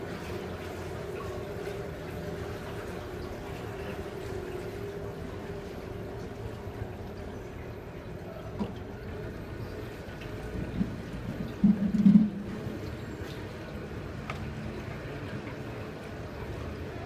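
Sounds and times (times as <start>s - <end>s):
boat motor hum: 0.0s - 17.0s
water sloshing around hull: 0.0s - 17.0s.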